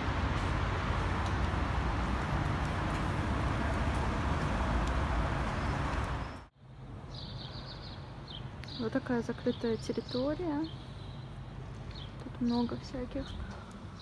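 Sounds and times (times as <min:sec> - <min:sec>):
city street noise: 0:00.0 - 0:14.0.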